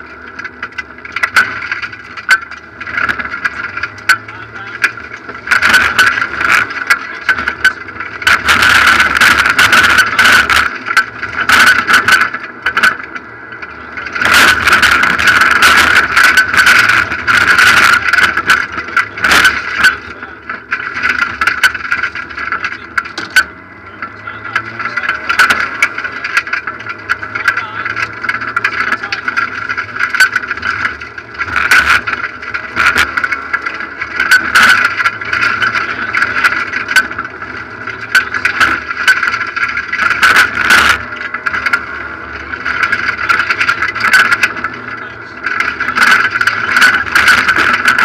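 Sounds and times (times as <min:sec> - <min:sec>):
car engine running hard: 0:00.0 - 0:48.0
gravel hitting car underside: 0:00.0 - 0:48.0.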